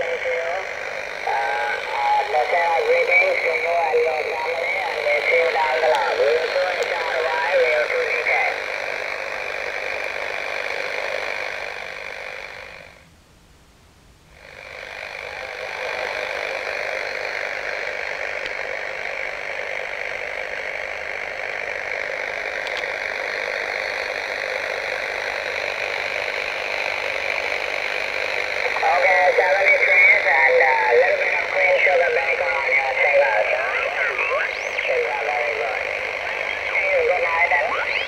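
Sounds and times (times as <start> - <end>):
radio static hiss: 0.0 - 38.0.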